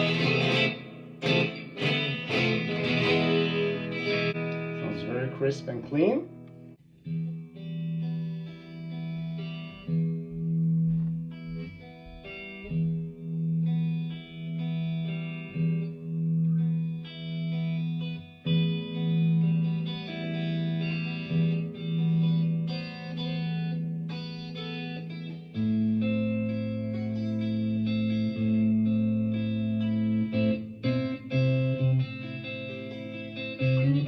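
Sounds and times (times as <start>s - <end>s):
electric guitar with tremolo effect: 0.0s - 34.0s.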